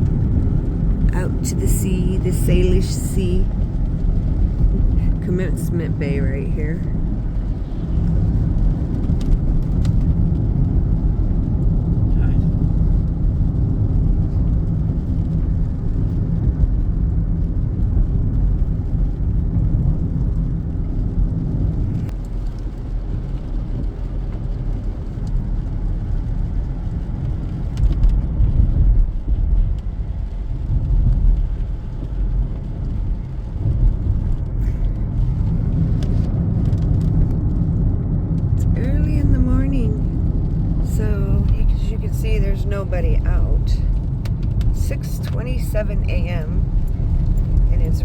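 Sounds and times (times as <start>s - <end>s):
car road noise and engine rumble: 0.0s - 48.0s.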